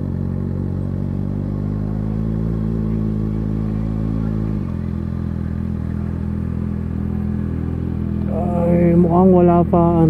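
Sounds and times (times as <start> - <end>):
motorcycle engine idling low revs: 0.0 - 10.0.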